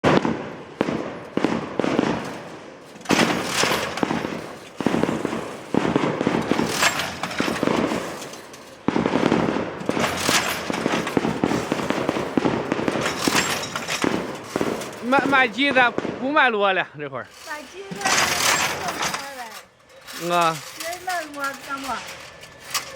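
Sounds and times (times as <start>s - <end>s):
wire mesh machine clattering: 2.0s - 15.9s, 17.3s - 22.9s.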